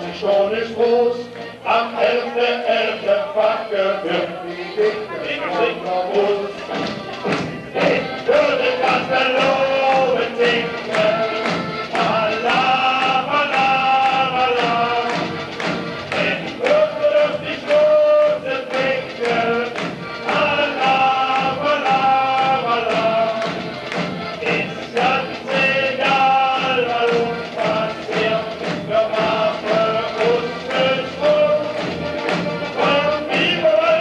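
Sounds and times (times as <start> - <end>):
sung song over steady beat: 0.0 - 34.0.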